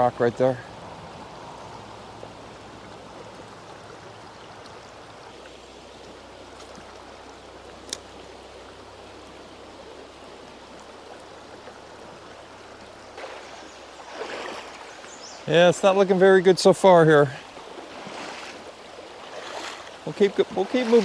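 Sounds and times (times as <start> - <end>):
creek water flowing over riffles: 0.0 - 21.0.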